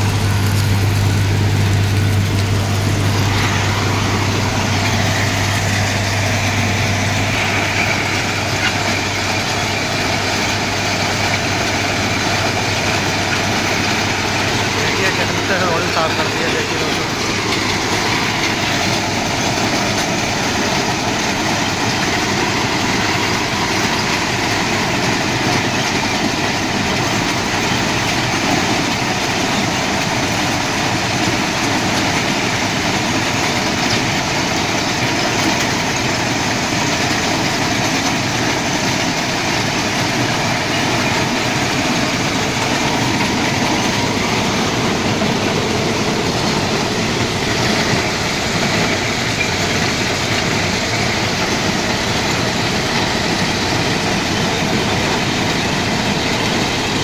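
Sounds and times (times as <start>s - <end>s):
heavy machinery noise: 0.0s - 57.0s.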